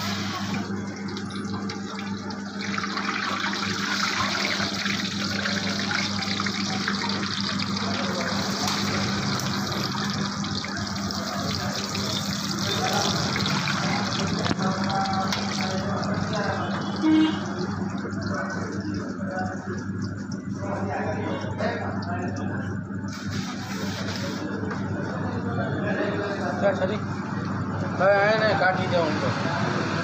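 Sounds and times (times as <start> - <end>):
food deep-frying in oil: 0.0 - 24.5.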